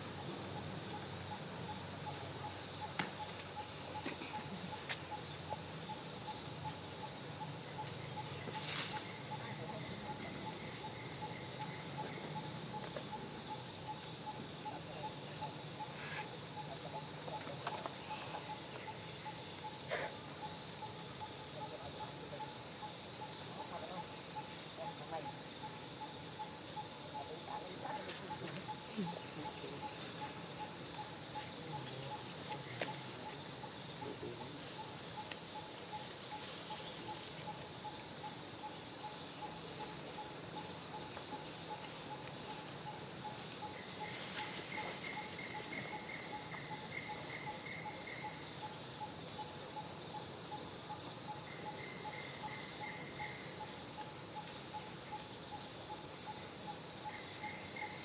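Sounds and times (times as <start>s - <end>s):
insects chirping: 0.0s - 58.0s
short insect trill: 0.0s - 58.0s.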